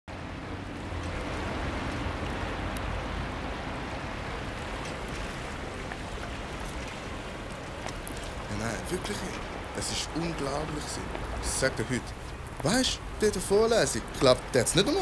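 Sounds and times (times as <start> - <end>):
rushing ambient noise: 0.1 - 15.0.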